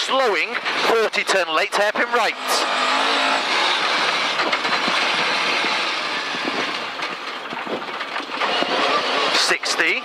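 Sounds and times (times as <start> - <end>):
rally car engine and tyre noise: 0.0 - 10.0.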